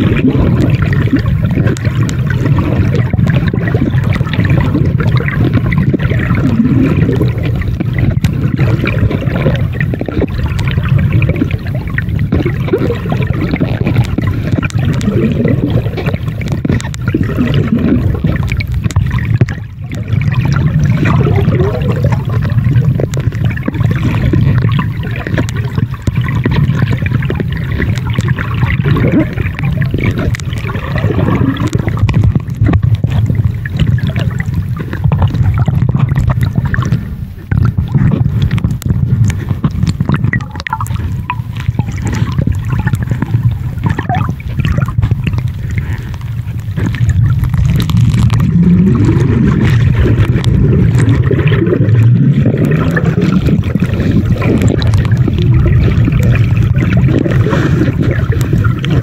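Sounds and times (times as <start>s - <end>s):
steady low rumble: 0.0s - 59.0s
underwater gurgling and bubbling: 0.0s - 59.0s.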